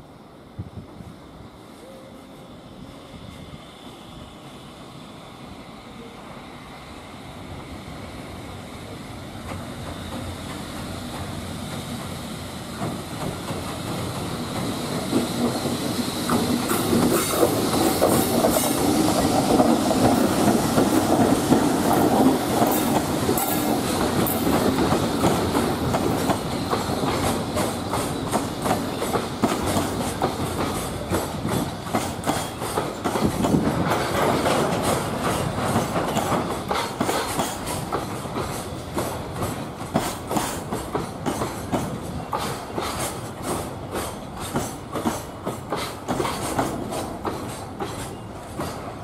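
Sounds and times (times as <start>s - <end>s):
electric locomotive hauling wagons: 0.0s - 49.0s
wheels clacking over rail joints: 9.4s - 49.0s.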